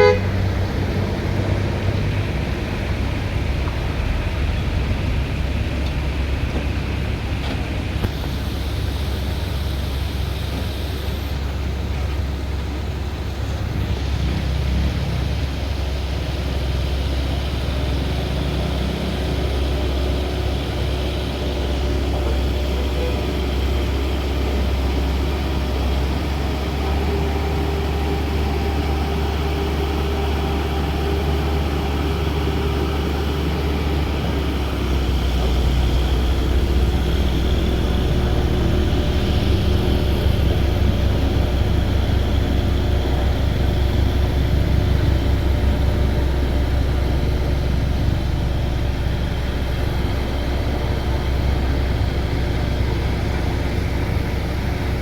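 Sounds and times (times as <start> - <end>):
low water rumble: 0.0 - 55.0.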